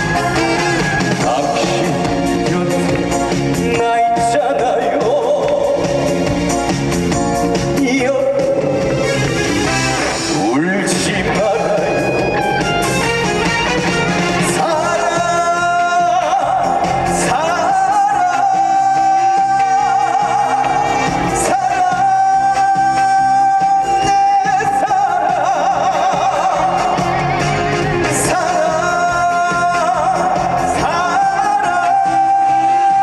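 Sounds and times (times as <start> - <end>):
man singing: 0.0 - 6.6, 7.5 - 9.1, 10.3 - 12.5, 14.3 - 33.0
live band accompaniment: 0.0 - 33.0.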